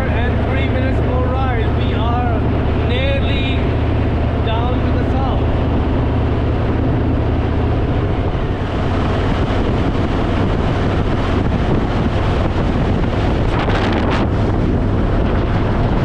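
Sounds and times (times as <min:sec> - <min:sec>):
motorcycle engine rumble: 0:00.0 - 0:16.0
wind rushing over microphone: 0:00.0 - 0:16.0.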